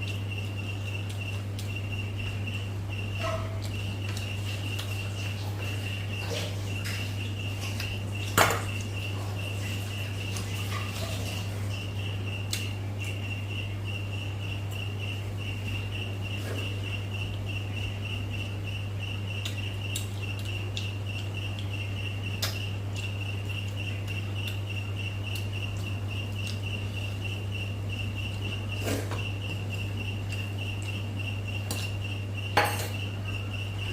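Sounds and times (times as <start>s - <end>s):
constant low hum: 0.0s - 33.9s
cricket chirring: 0.0s - 33.9s.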